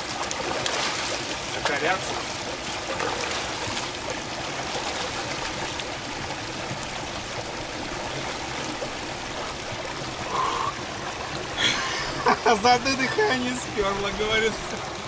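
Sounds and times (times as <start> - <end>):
light splashes of person wading: 0.0 - 12.4
river rushing over boulders: 0.0 - 15.0.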